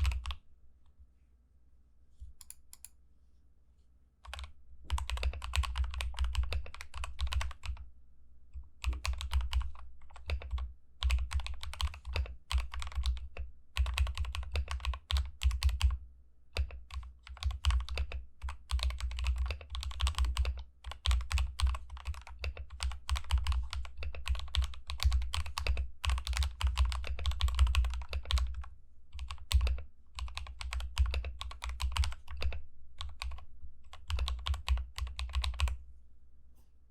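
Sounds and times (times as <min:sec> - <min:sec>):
typing on mechanical keyboard: 0:00.0 - 0:00.4, 0:04.2 - 0:07.8, 0:08.8 - 0:16.0, 0:16.6 - 0:35.8.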